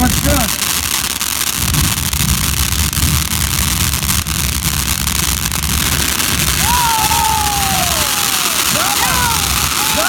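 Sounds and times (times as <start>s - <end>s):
firework hissing and crackling: 0.0s - 10.0s.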